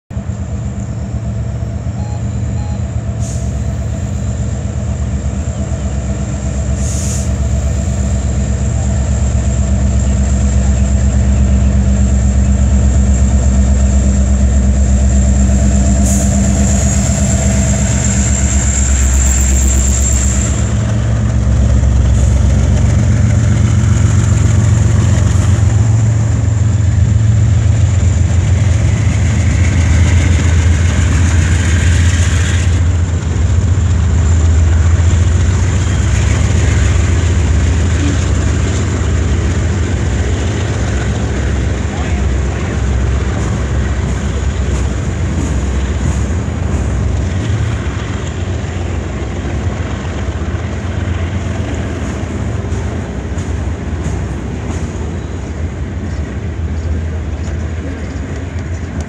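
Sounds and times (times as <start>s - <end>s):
diesel locomotives passing: 0.1s - 59.0s.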